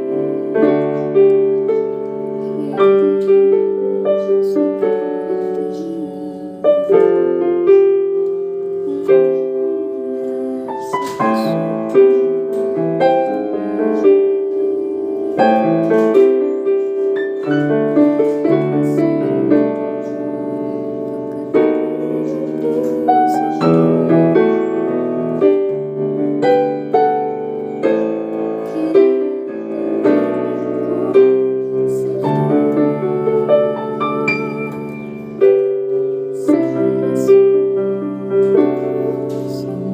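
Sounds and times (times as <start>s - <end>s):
piano melody over chords: 0.0s - 39.9s.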